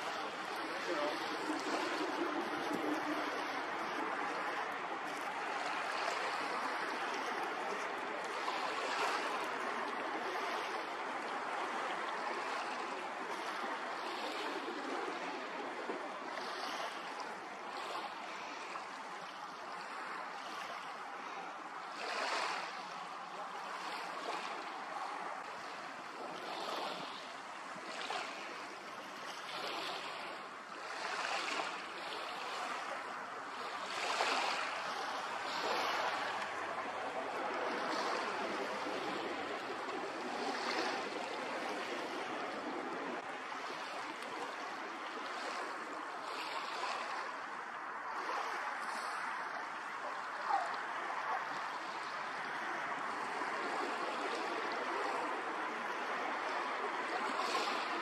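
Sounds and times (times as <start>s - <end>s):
small waves lapping: 0.0s - 58.0s.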